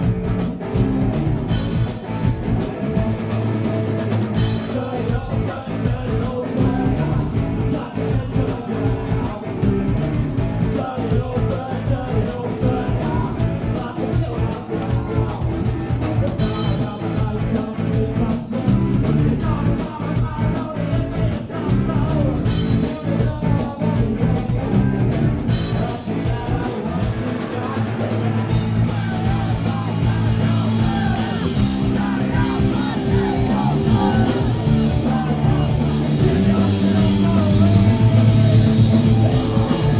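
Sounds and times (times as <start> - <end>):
bass guitar: 0.0 - 39.9
drum kit beat: 0.0 - 39.9
electric guitar: 0.0 - 39.9
person singing: 4.4 - 39.9.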